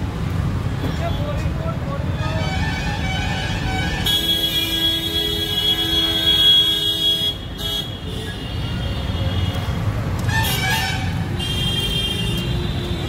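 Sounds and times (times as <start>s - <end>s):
street traffic rumbling: 0.0s - 13.0s
vehicle horns: 2.2s - 13.0s.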